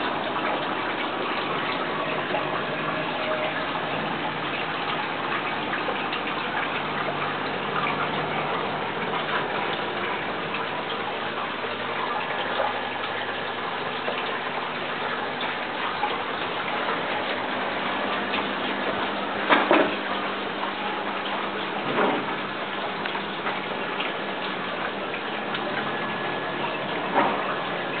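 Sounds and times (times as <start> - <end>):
water splashing and trickling: 0.0 - 28.0.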